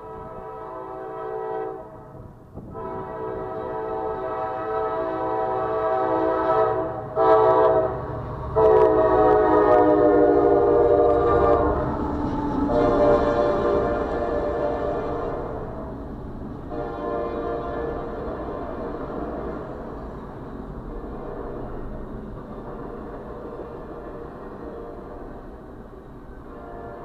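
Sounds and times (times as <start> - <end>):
locomotive air horn blasts: 0.0 - 12.0, 12.6 - 15.9, 16.7 - 19.8, 20.9 - 21.9, 22.7 - 25.6, 26.3 - 27.0
train rumble: 0.0 - 27.0.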